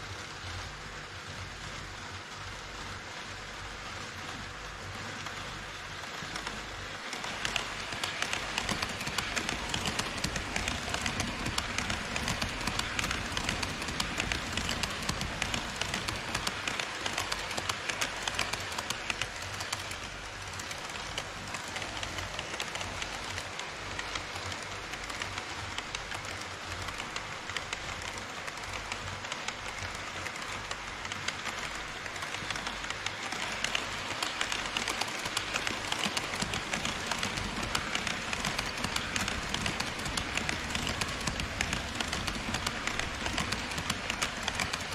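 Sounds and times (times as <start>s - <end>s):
rapid clicks at rail joints: 0.0s - 44.9s
model train wheels clattering: 2.9s - 44.9s.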